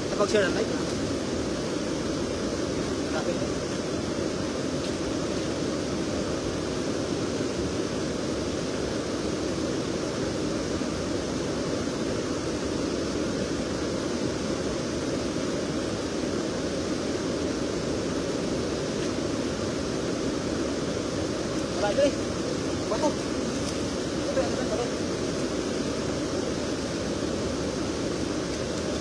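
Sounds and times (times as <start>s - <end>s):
river in flood roaring: 0.0s - 29.0s.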